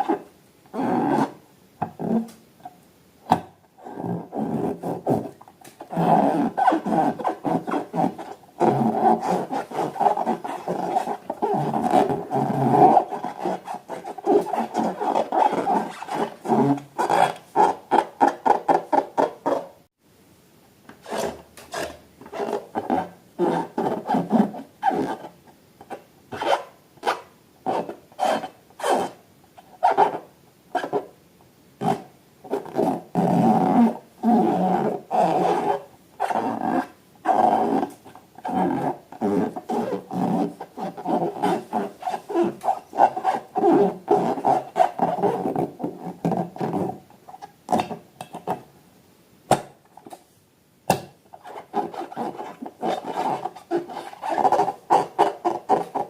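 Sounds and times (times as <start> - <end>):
rubber balloon squeaking and rasping: 0.8 - 2.4, 3.8 - 19.8, 21.0 - 29.2, 31.8 - 47.0, 51.3 - 56.0.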